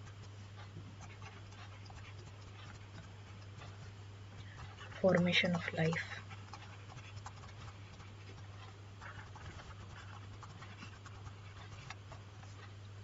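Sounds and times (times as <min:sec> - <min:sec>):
stylus scratching on tablet: 0:00.0 - 0:12.8
low electrical hum: 0:00.0 - 0:13.0.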